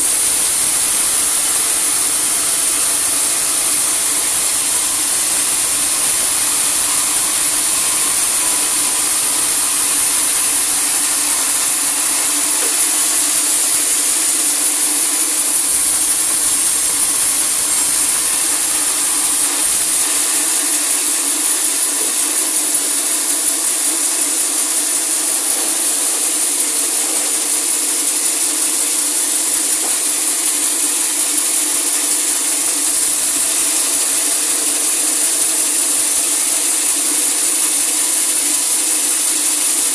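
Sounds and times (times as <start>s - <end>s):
saw cutting log hiss: 0.0s - 39.9s
saw hum: 0.0s - 39.9s.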